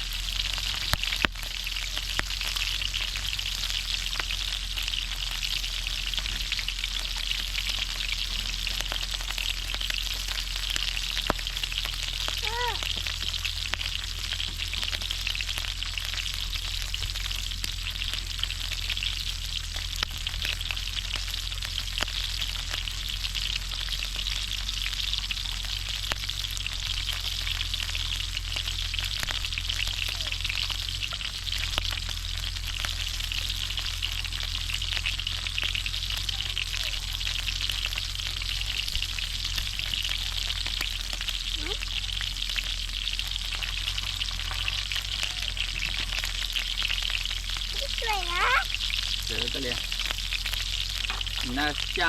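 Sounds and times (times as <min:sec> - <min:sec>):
pork frying in hot oil: 0:00.0 - 0:52.0.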